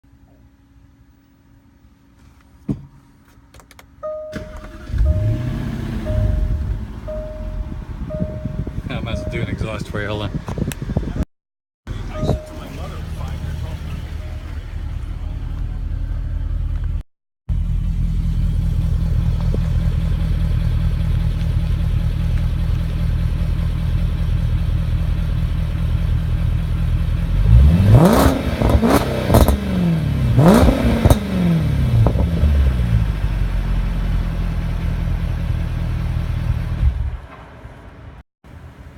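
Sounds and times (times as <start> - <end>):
car engine idling and revving: 4.0 - 11.2, 11.9 - 37.4.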